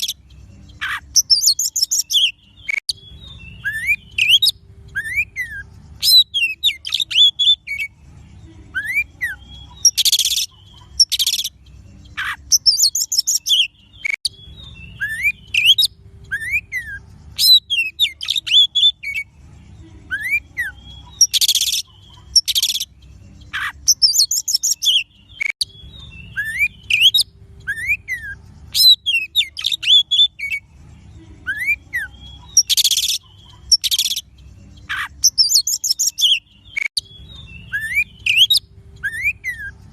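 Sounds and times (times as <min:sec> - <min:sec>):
bird singing chirps and whistles: 0:00.0 - 0:07.9, 0:08.8 - 0:11.5, 0:12.1 - 0:19.3, 0:20.1 - 0:22.9, 0:23.5 - 0:30.6, 0:31.5 - 0:39.8.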